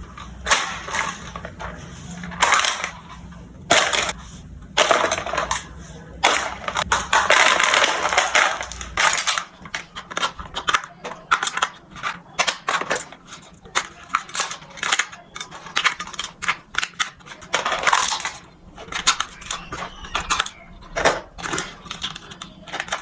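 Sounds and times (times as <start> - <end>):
toy packaging crinkling: 0.0 - 4.2, 4.8 - 23.0.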